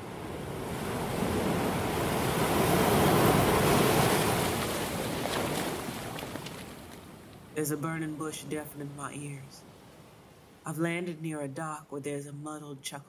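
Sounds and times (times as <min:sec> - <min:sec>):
ocean waves surging: 0:00.0 - 0:11.0.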